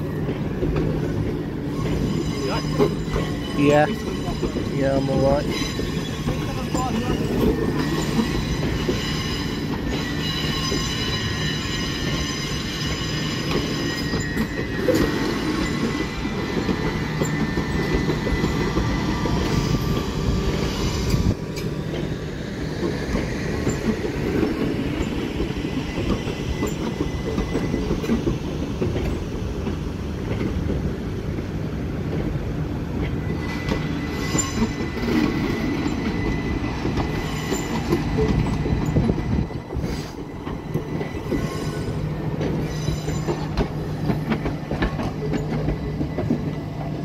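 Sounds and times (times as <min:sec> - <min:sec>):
train rumble and motor hum: 0:00.0 - 0:47.0
train wheels squealing: 0:00.1 - 0:29.5, 0:33.0 - 0:47.0.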